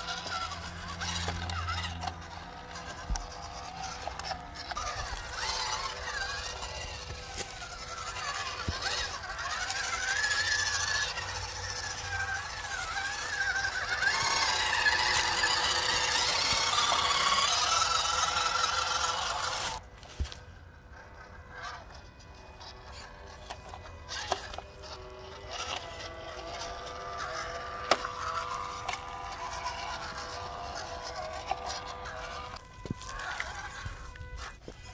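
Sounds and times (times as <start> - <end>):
small electric motor whining: 0.0 - 34.9.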